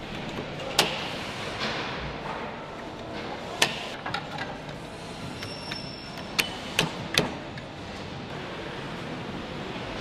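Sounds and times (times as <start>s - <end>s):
assembly hall work noise: 0.0s - 10.0s.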